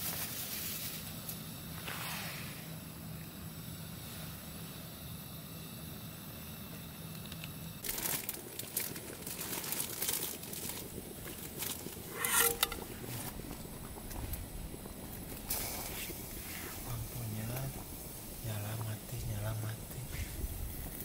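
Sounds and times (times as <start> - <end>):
gas stove hissing: 0.0 - 21.0.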